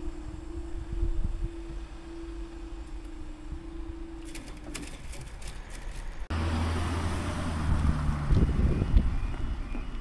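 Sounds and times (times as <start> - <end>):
barrier mechanical hum: 0.0 - 10.0.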